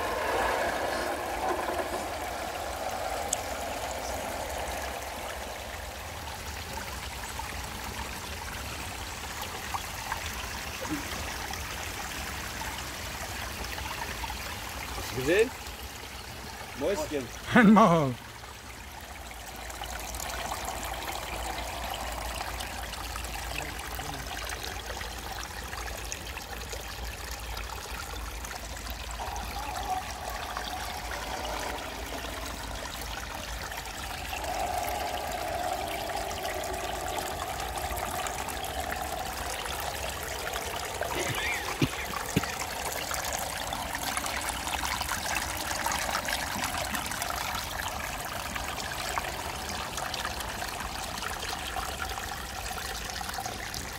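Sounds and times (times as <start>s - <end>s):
stream trickling over rocks: 0.0s - 53.9s.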